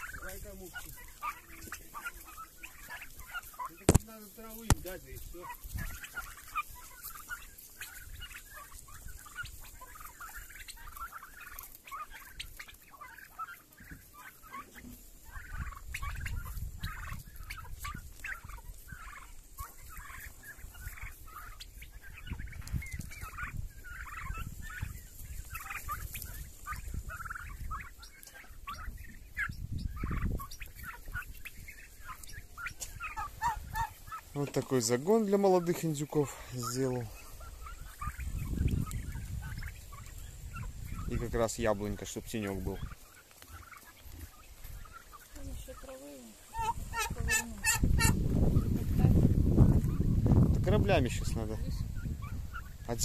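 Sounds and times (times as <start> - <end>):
young turkeys calling: 0.0 - 53.0.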